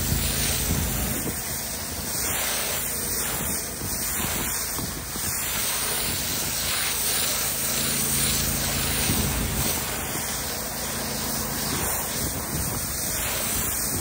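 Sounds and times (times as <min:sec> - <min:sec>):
pressure washer spray hissing: 0:00.0 - 0:14.0.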